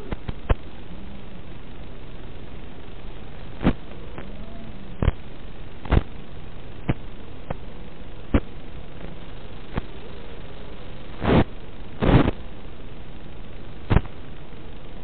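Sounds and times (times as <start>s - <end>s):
sharp static pops: 0.0s - 15.0s
video link static hiss: 0.0s - 15.0s.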